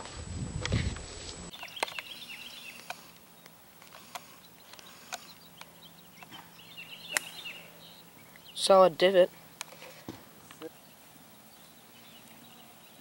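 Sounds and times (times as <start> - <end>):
faint bird chirps: 1.5 - 13.0.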